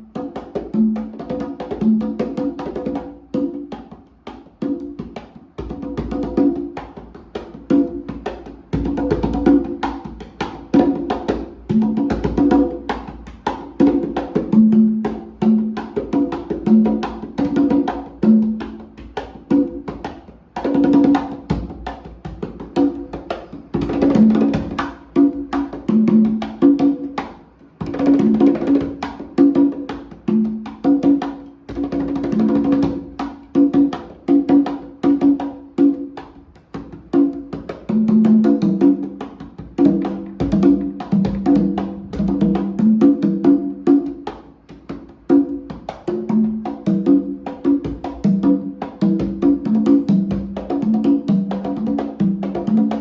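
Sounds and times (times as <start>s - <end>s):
congas played by hand: 0.0s - 53.0s.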